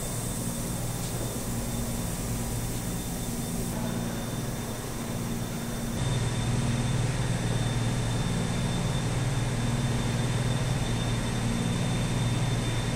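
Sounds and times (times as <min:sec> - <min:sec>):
faint high whine: 0:00.0 - 0:12.9
industrial machinery drone: 0:00.0 - 0:12.9.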